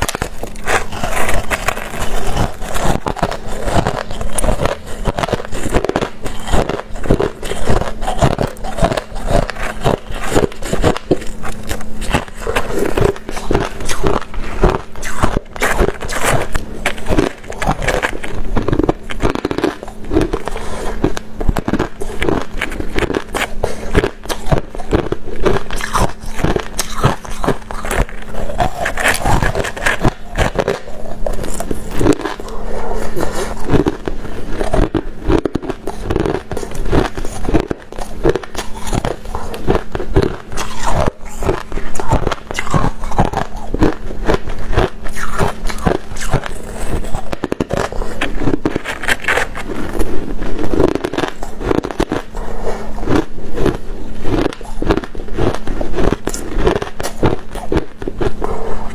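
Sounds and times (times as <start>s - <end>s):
ice being chewed: 0.0s - 58.9s
steady low hum: 0.0s - 58.9s.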